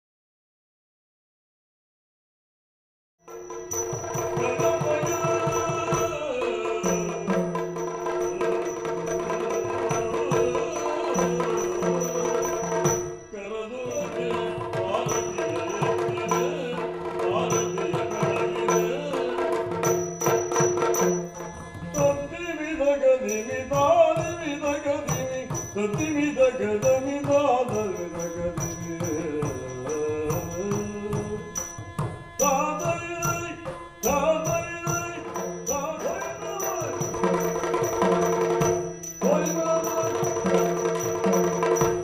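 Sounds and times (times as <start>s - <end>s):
drum strokes: 3.3s - 22.6s, 23.2s - 42.0s.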